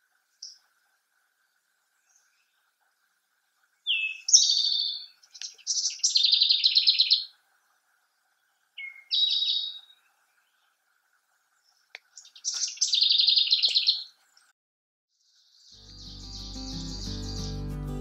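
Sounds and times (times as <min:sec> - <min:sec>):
songbird singing: 0:00.2 - 0:14.5, 0:15.2 - 0:18.0.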